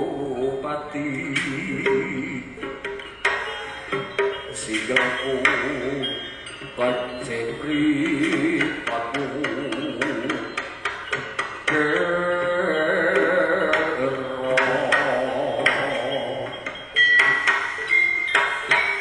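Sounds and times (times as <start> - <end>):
ornamented gamelan melody: 0.0 - 19.0.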